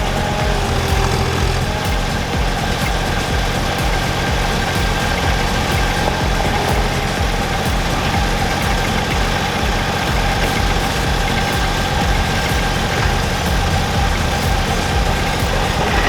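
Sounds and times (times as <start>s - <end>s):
skid steer diesel engine running: 0.0s - 16.0s.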